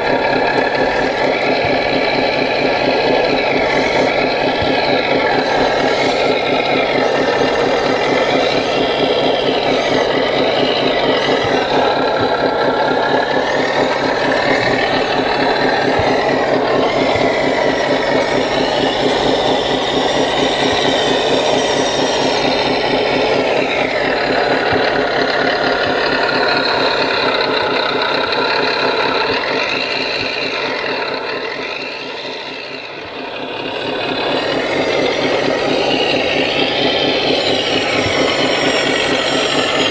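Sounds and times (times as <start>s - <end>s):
electric motors whining: 0.0s - 39.9s
simulated diesel engine running: 0.0s - 39.9s.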